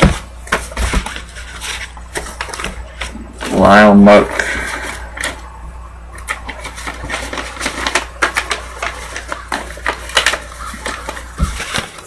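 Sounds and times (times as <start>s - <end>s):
paper and cards rustling: 0.0s - 5.5s, 6.1s - 12.0s
steady low hum: 0.0s - 12.0s.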